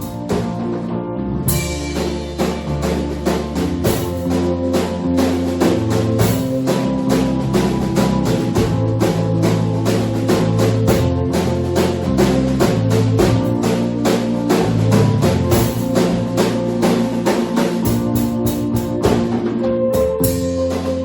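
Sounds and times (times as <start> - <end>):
drum kit beat: 0.0 - 0.9, 1.5 - 21.0
band playing instrumental music: 0.0 - 21.0.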